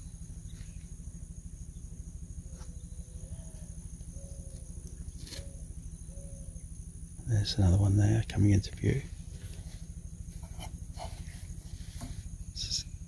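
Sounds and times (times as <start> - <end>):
insect trill: 0.0 - 13.0
kart engine idling: 0.0 - 13.0.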